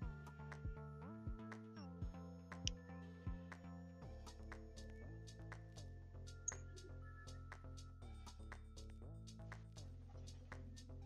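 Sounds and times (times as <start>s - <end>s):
quiet background music with beat: 0.0s - 11.0s.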